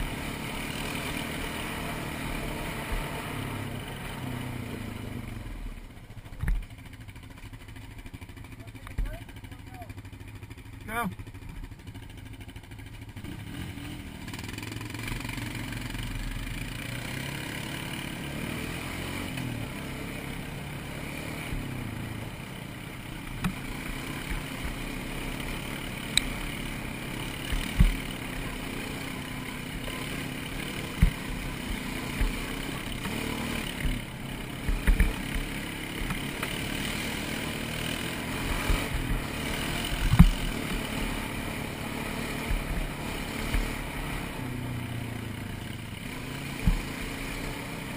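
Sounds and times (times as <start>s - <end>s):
quad bike engine running: 0.0s - 47.9s.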